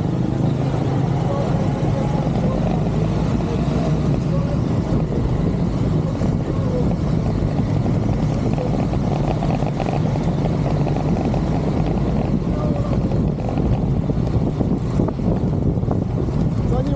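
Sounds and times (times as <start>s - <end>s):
motorcycle engine running: 0.0s - 16.9s
wind on microphone: 0.0s - 16.9s.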